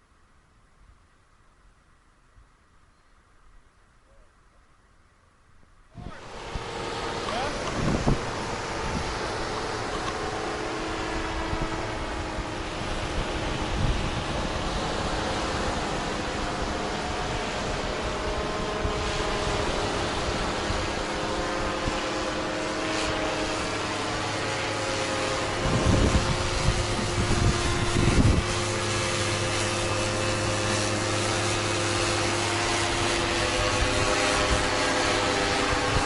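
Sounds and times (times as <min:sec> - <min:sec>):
wind on microphone: 0:05.9 - 0:36.0
engine droning: 0:06.0 - 0:36.0.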